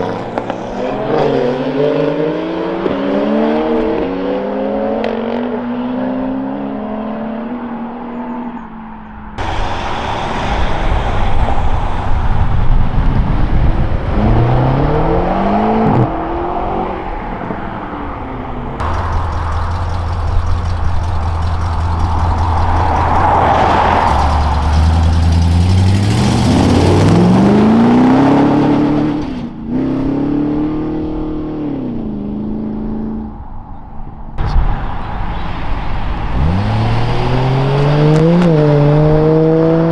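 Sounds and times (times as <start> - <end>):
cars revving and accelerating: 0.0 - 8.2, 9.4 - 33.0, 34.4 - 39.9.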